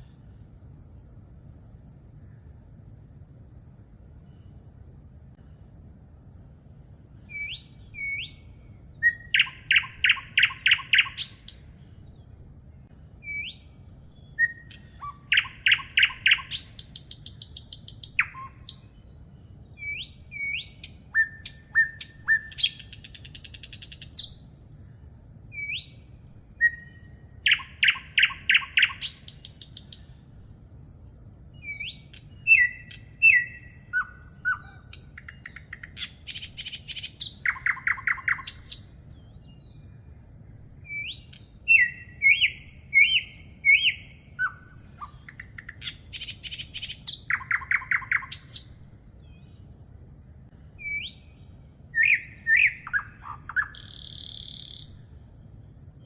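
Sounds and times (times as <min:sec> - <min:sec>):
songbird singing: 0:00.0 - 0:56.0
high buzzy bird trills: 0:07.2 - 0:30.3, 0:31.0 - 0:49.5, 0:50.2 - 0:56.0.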